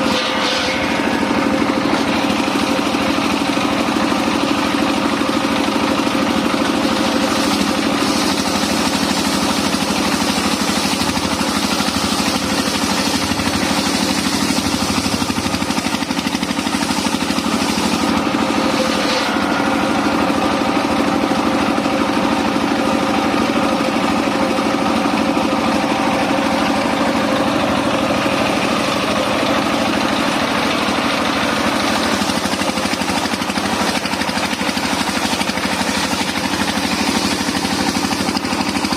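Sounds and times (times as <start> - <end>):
circular sawmill running: 0.0 - 38.9.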